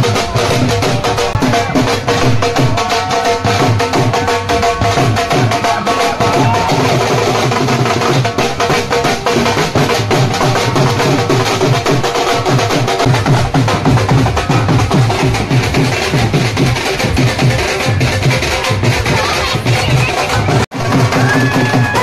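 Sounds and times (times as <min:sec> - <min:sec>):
dhol drums fast beat: 0:00.0 - 0:22.0.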